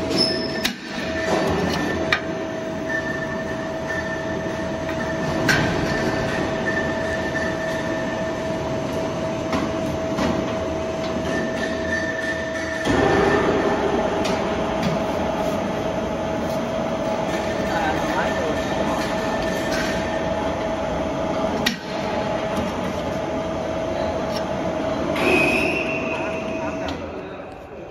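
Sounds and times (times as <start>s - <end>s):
roll forming machine running: 0.0s - 27.6s.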